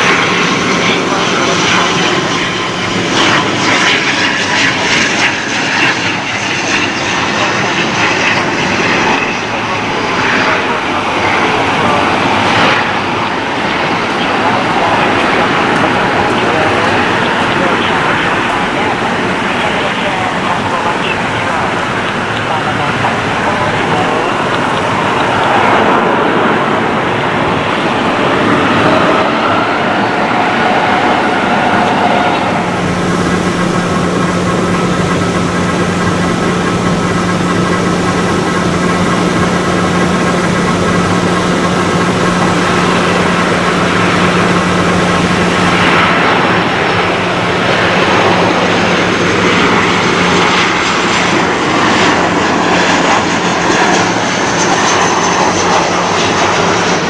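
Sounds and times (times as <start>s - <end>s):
jet engines whining: 0.0s - 57.0s
turboprop engine roar: 0.0s - 57.0s.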